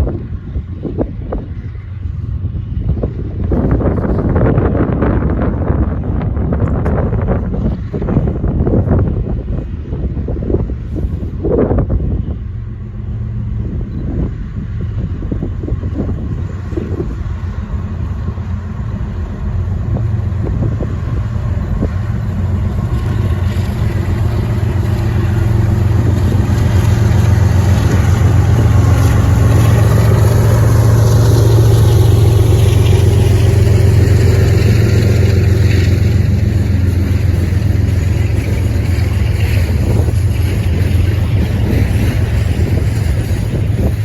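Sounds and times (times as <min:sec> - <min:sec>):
diesel locomotive engine drone: 0:00.0 - 0:44.0.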